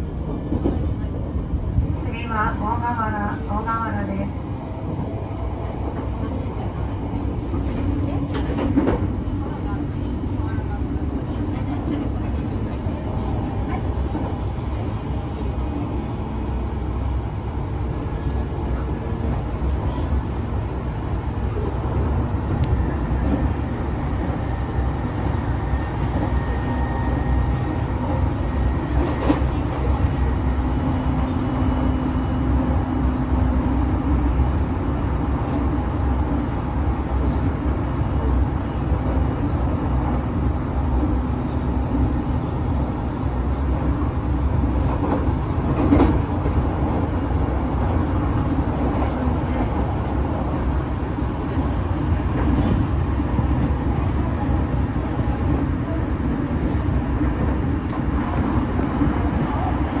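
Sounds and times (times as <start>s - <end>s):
train rumbling: 0.0s - 60.0s.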